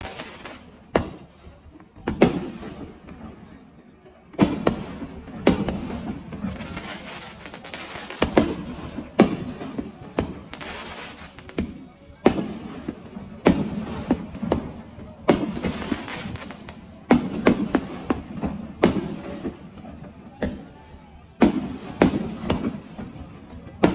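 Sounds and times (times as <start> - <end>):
fireworks bursting with crackle: 0.0 - 23.9.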